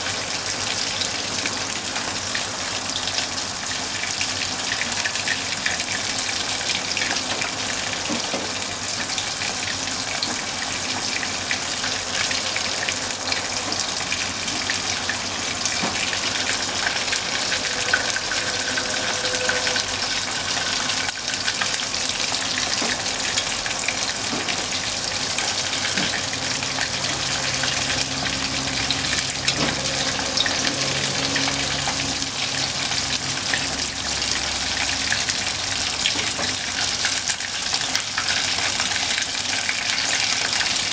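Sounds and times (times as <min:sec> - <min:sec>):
meat deep-frying in oil: 0:00.0 - 0:40.9.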